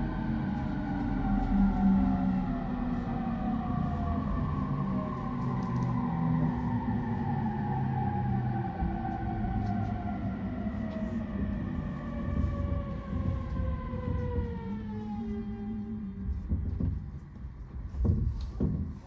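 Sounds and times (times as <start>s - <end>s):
low rumble of wheels: 0.0s - 19.0s.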